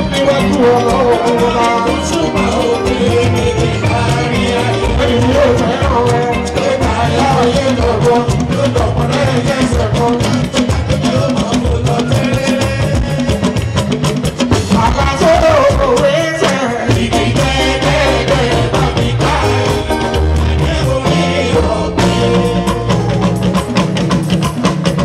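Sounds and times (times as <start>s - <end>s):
man singing: 0.0s - 23.2s
hand drums and percussion: 0.0s - 25.0s.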